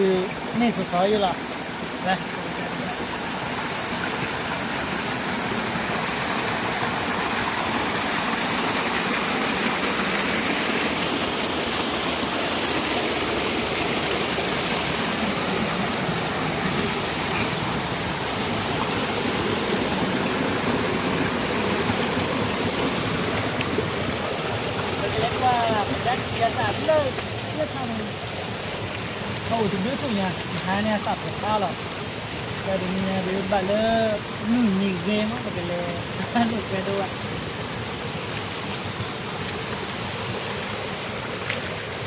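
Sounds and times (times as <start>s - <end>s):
water rushing: 0.0s - 42.0s.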